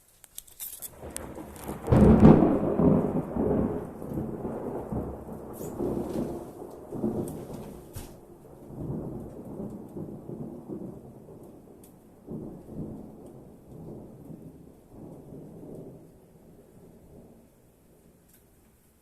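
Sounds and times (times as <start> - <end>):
distant thunder rumbling: 0.9 - 18.3.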